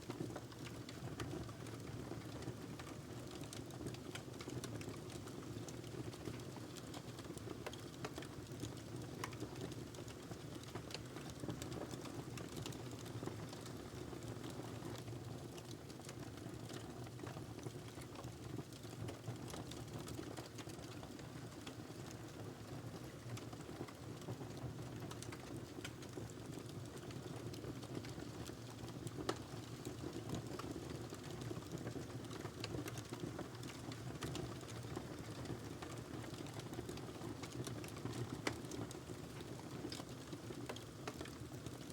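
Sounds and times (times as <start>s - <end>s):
fire crackles and pops: 0.1s - 41.9s.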